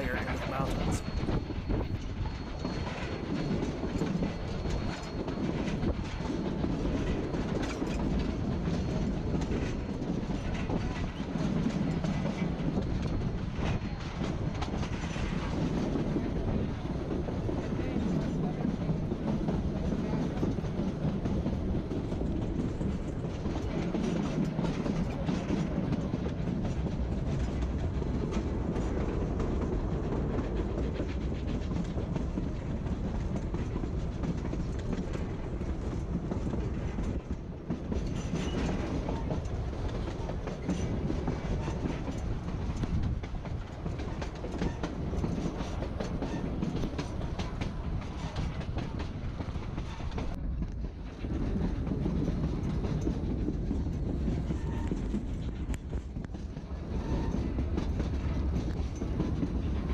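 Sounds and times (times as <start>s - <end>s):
train rolling on rails: 0.0s - 59.9s.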